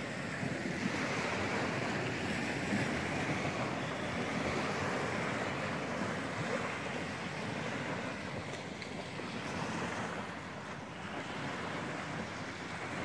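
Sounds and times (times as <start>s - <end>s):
small waves washing on beach: 0.0s - 13.0s.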